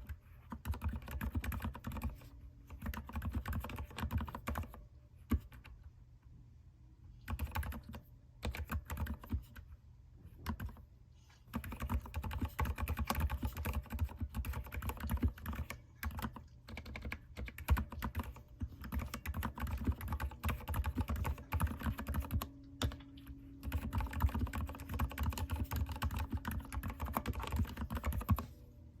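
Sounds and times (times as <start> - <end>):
typing on mechanical keyboard: 0.0 - 5.8, 7.2 - 9.6, 10.4 - 10.8, 11.5 - 28.5.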